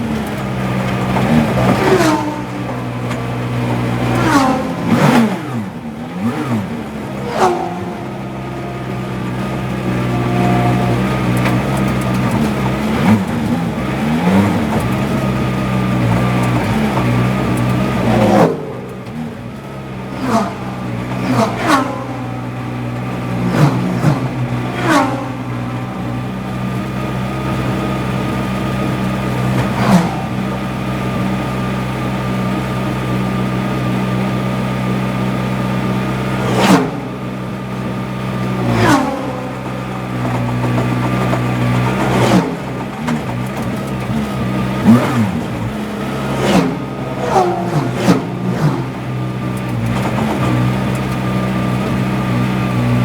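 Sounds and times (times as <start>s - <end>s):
race car engine running: 0.0s - 53.0s
race cars passing close by: 0.0s - 53.0s.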